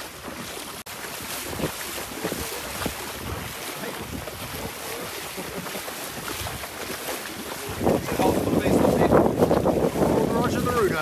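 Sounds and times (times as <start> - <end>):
feet splashing through water: 0.0 - 11.0
wind on microphone: 0.3 - 11.0.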